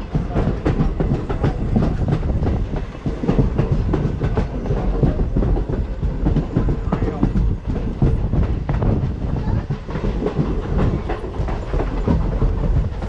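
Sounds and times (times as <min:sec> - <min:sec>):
train wheels clattering on rails: 0:00.0 - 0:13.0
wind rushing over microphone: 0:00.0 - 0:13.0.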